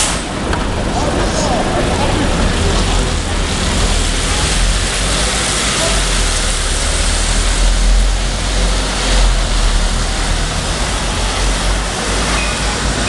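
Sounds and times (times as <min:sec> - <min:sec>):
bus driving off: 0:00.0 - 0:13.0.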